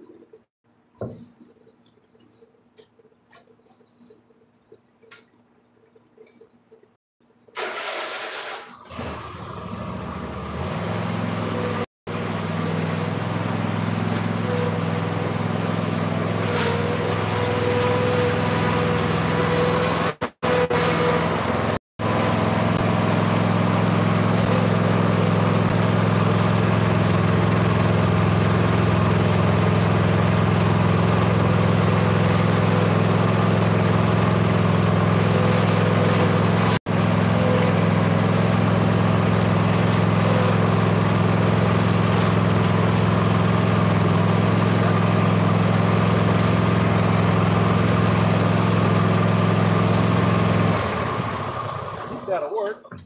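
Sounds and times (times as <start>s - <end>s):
mower engine running: 7.6s - 52.5s.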